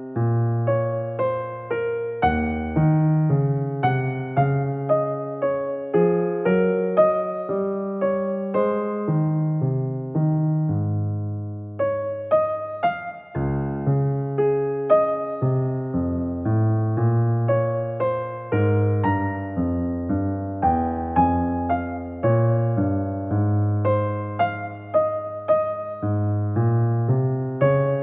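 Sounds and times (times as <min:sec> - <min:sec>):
soft piano music: 0:00.0 - 0:28.0.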